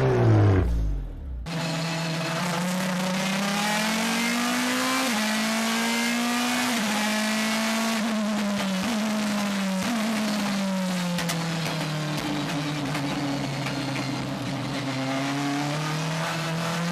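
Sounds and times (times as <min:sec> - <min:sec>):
race car engine at high revs: 0:00.0 - 0:16.9.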